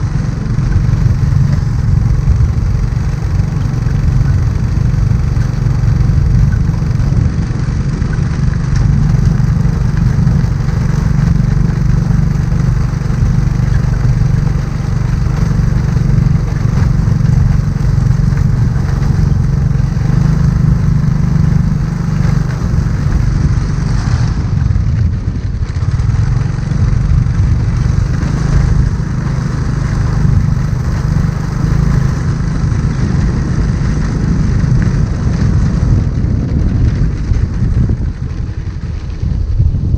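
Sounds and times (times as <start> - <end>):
motorbike engine running: 0.0 - 39.9
wind noise on microphone: 0.0 - 39.9.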